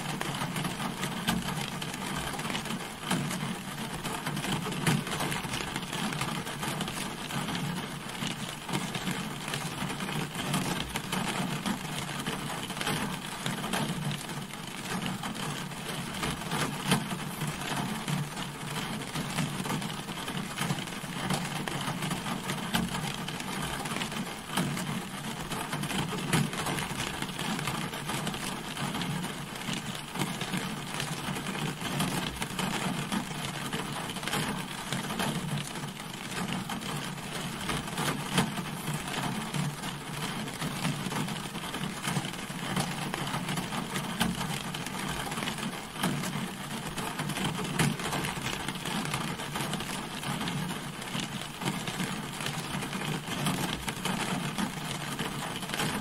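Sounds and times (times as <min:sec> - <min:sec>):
rain pattering on a car: 0:00.0 - 0:56.0.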